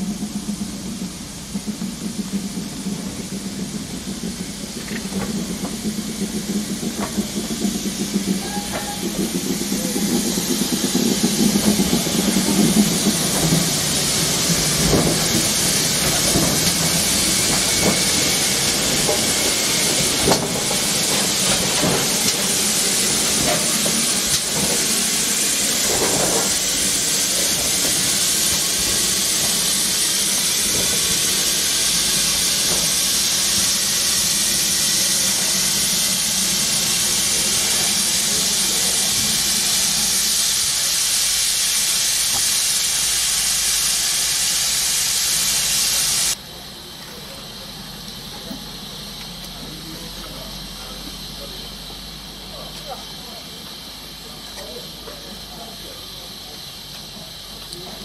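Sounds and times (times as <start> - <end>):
steam hissing from locomotive: 0.0 - 58.0.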